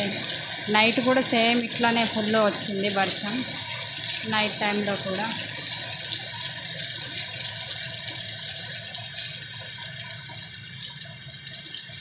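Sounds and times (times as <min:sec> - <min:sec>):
heavy rain pouring: 0:00.0 - 0:10.0
raindrop splashes: 0:00.0 - 0:12.0.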